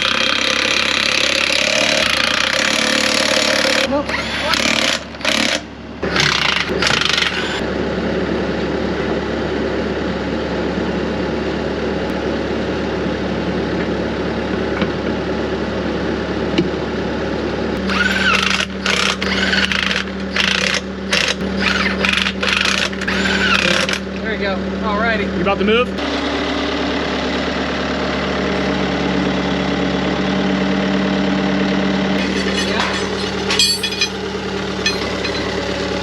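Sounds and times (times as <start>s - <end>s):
loader engine running: 0.0s - 36.0s.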